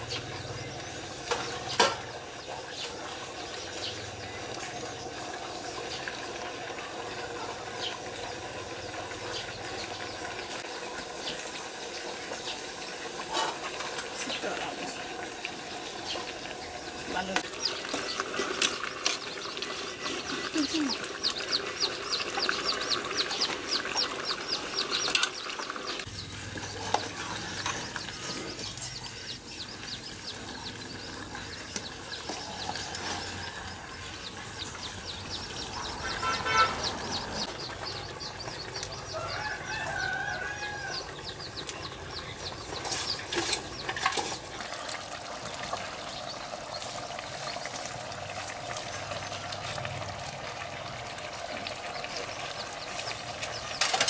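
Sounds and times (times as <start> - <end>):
chickens clucking: 0.0 - 48.8.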